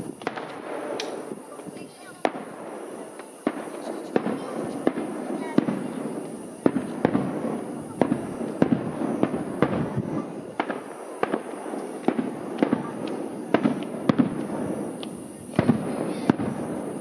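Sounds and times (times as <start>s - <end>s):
continuous rumble: 0.0s - 17.0s
firework shells bursting: 0.0s - 17.0s.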